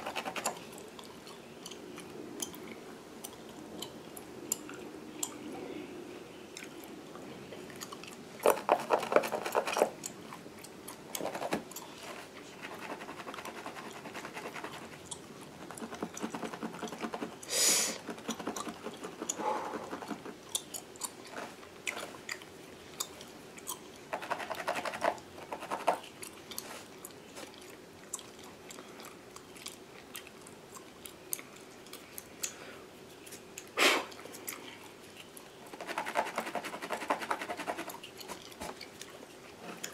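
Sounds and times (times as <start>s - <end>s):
gum chewing and smacking: 6.6s - 36.0s, 37.4s - 39.9s.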